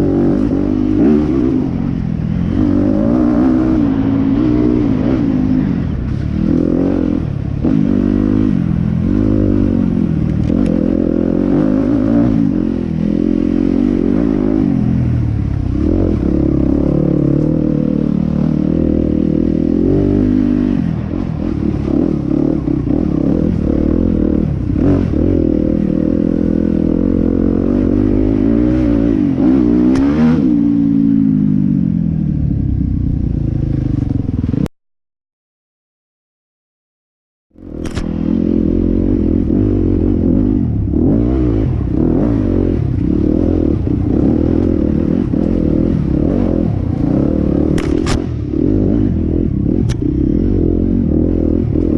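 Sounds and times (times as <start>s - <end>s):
motorcycle engine revving: 0.0s - 34.7s, 37.5s - 51.9s.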